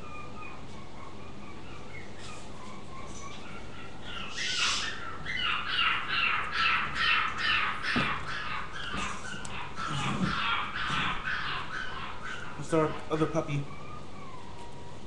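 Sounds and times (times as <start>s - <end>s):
puppy crying: 0.0s - 15.0s.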